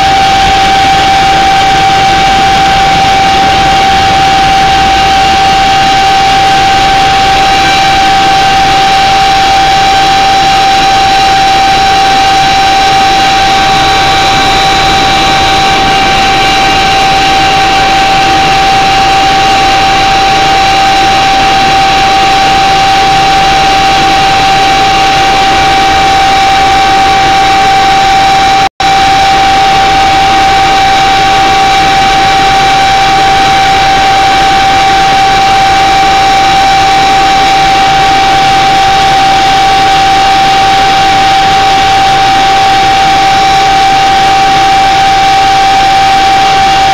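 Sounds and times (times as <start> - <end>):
aircraft engines droning: 0.0 - 46.9
high engine whine: 0.0 - 46.9.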